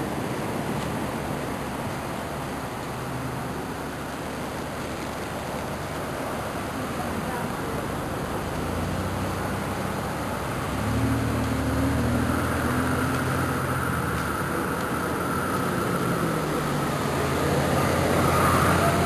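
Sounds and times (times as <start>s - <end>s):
constant hiss: 0.0s - 19.0s
vehicle engine humming: 0.0s - 19.0s.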